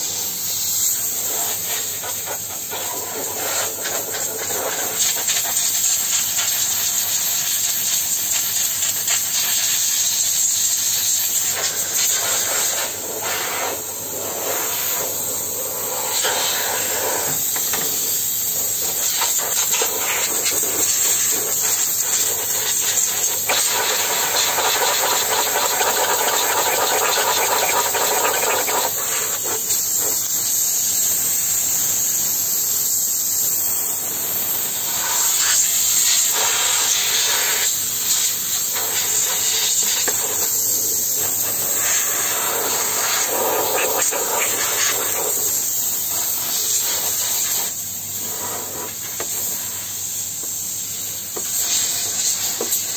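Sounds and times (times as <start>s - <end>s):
steam cleaner hissing: 0.0s - 52.9s.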